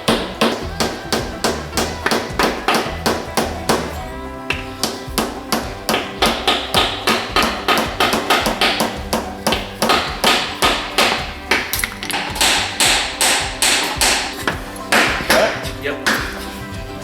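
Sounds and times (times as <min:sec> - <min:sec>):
quick tapping beat: 0:00.0 - 0:16.6
sustained low notes: 0:00.0 - 0:17.0.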